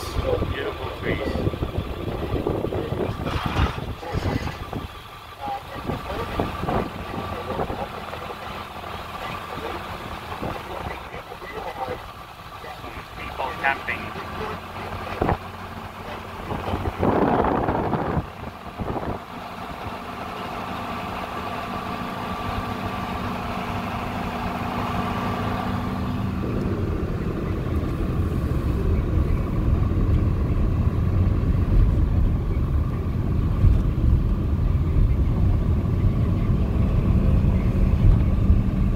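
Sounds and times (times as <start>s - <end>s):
low road rumble: 0.0s - 38.9s
vehicle engine running: 0.0s - 38.9s.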